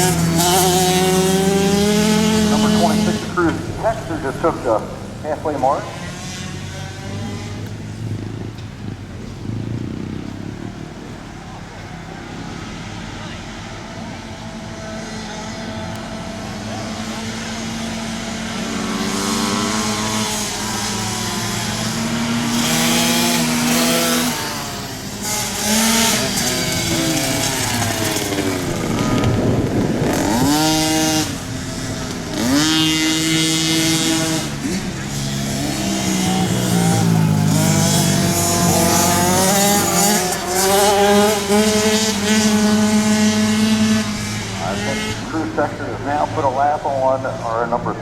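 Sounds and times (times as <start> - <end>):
racing motorcycles revving: 0.0 - 48.0.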